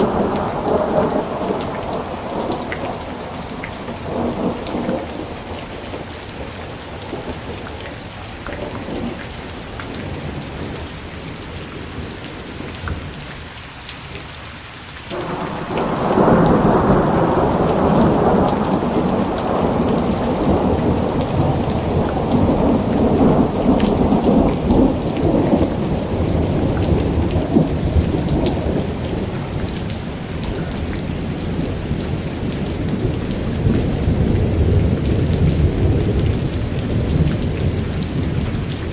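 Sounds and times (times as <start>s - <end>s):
thunder rumbling: 0.0s - 13.1s, 15.1s - 38.9s
steady rain falling: 0.0s - 38.9s.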